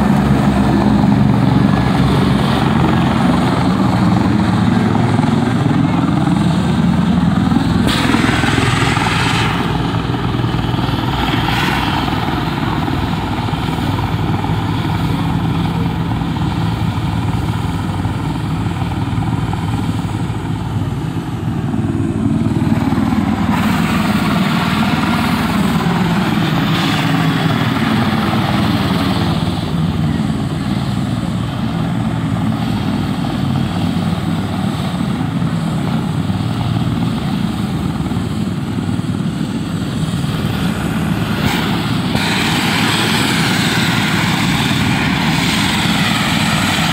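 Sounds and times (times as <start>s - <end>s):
helicopter turbine and rotor: 0.0s - 46.9s.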